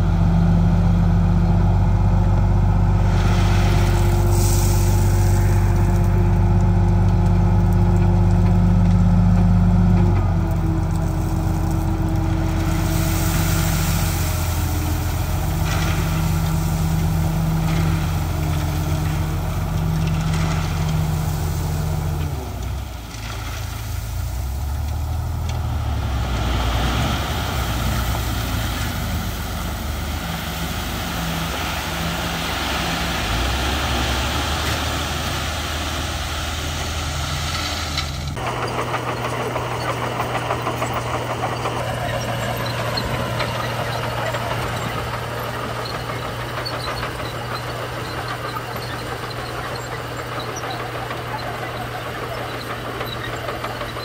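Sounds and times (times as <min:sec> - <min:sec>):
bulldozer working: 0:00.0 - 0:54.0
diesel truck engine running: 0:00.0 - 0:54.0
gravel sliding out: 0:02.8 - 0:54.0.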